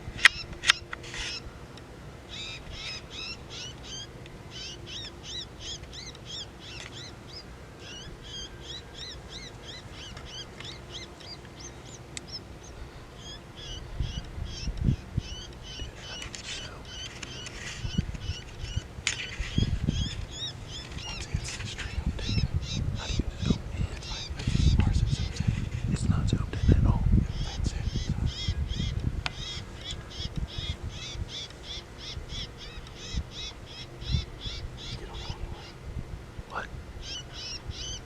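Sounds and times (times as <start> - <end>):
high-pitched chirping calls: 0.0 - 35.8, 36.5 - 38.0.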